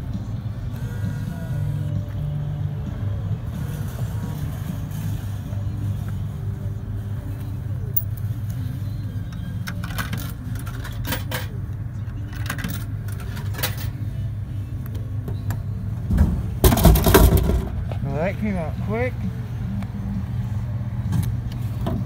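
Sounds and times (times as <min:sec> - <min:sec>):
vending machine hum: 0:00.0 - 0:22.0.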